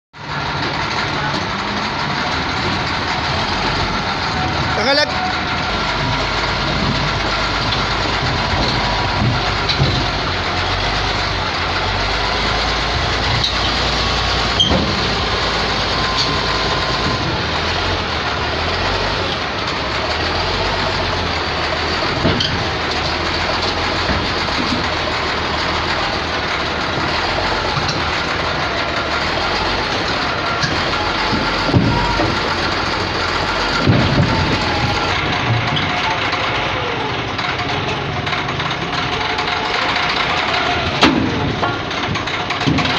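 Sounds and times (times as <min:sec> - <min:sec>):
diesel engine running: 0:00.2 - 0:42.9.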